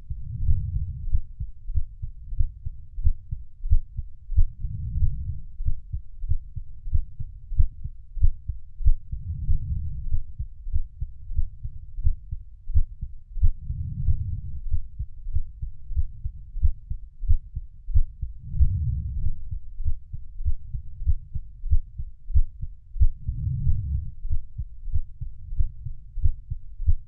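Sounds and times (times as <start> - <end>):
heartbeat thumps: 0.0 - 27.0
low background whoosh: 0.0 - 27.0.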